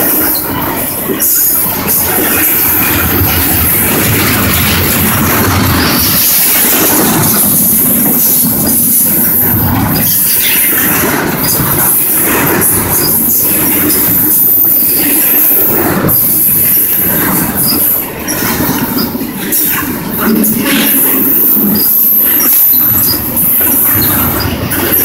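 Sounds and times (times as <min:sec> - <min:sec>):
freight train rumble and rattle: 0:00.0 - 0:25.0
wheel clatter on rails: 0:00.0 - 0:25.0.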